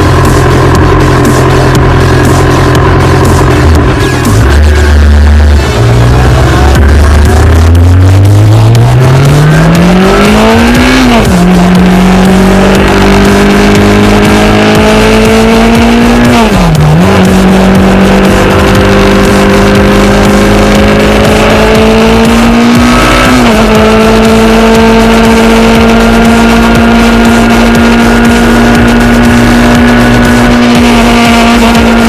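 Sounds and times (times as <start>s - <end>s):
motorcycle engine accelerating: 0.0s - 32.0s
rush of noise: 0.0s - 32.0s.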